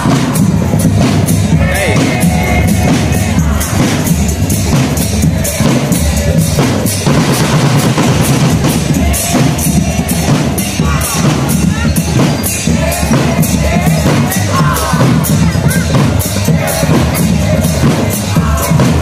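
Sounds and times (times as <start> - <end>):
marching bass drums: 0.0 - 19.0
snare drums: 0.0 - 19.0.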